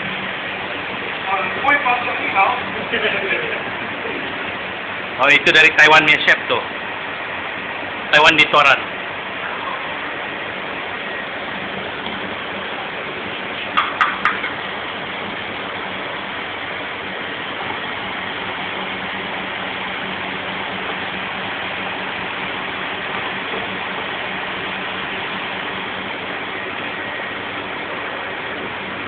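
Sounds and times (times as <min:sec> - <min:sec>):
gas burners and extraction rushing: 0:00.0 - 0:29.0.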